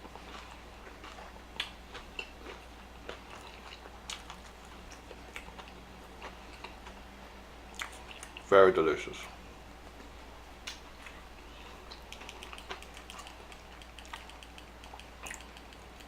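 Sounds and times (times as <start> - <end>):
close chewing with wet smacks: 0.0 - 7.0, 7.7 - 8.5, 9.8 - 16.0.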